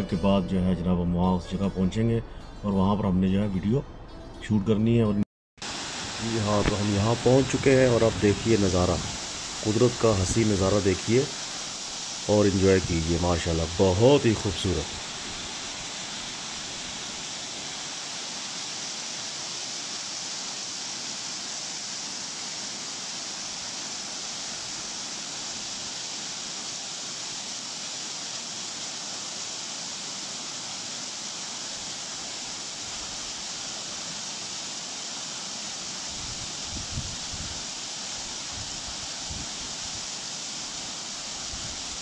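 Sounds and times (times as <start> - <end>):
waterfall rushing: 5.6 - 42.0.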